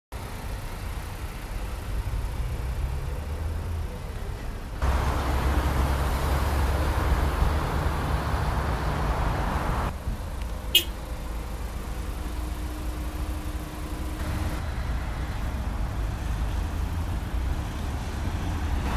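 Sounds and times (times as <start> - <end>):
road traffic rumble: 0.1 - 18.9.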